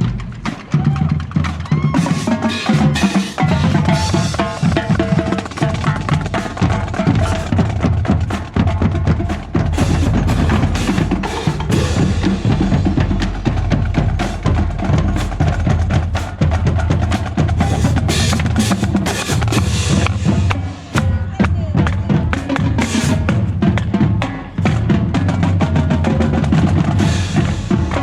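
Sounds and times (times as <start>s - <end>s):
drumline playing: 0.0s - 28.0s.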